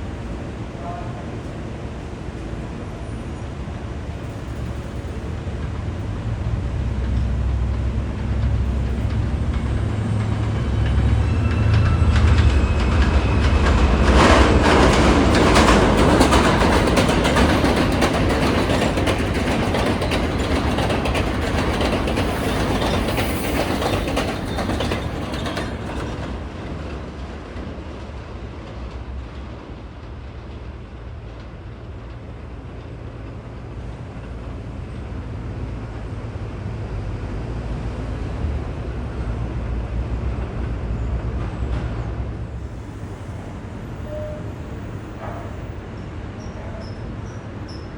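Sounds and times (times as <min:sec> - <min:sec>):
subway train wheels clattering: 0:00.0 - 0:47.9.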